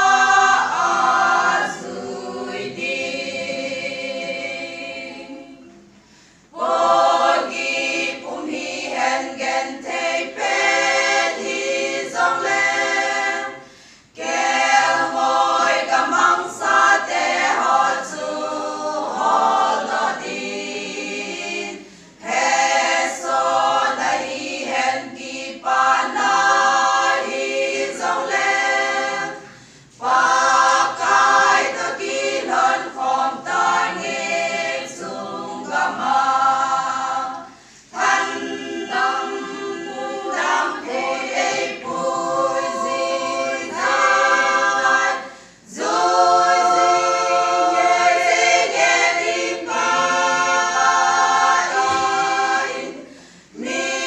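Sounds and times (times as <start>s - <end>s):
women's choir singing: 0.0s - 54.0s.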